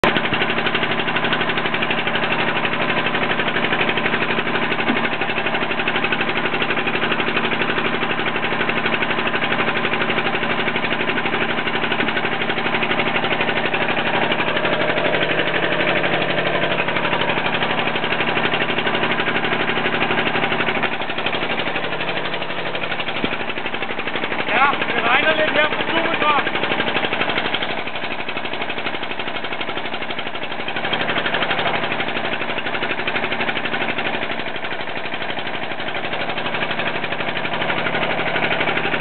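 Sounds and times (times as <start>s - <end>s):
boat engine chugging: 0.0s - 39.0s.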